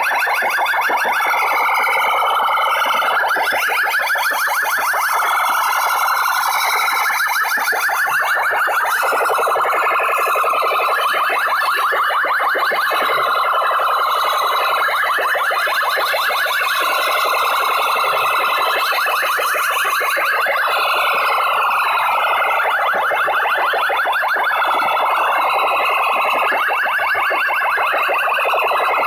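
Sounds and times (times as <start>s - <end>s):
distorted siren-like electronic sound: 0.0s - 29.0s.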